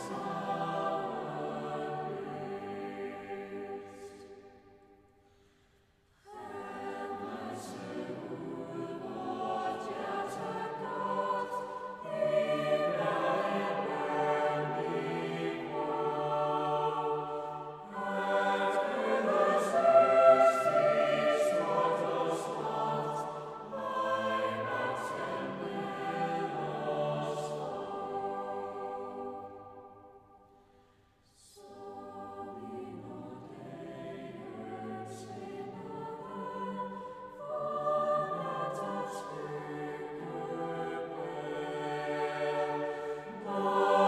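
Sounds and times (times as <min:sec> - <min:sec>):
choir singing a cappella: 0:00.0 - 0:44.0.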